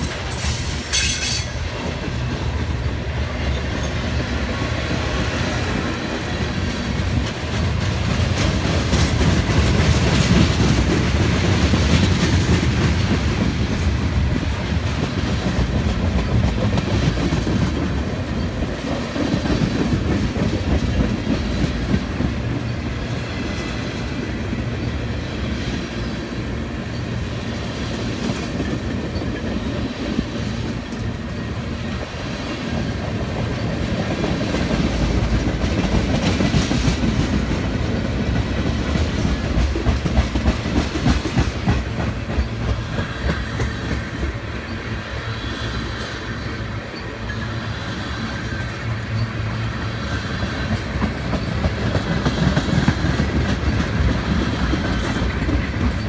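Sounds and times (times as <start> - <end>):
train rolling past rumble: 0.0 - 56.0.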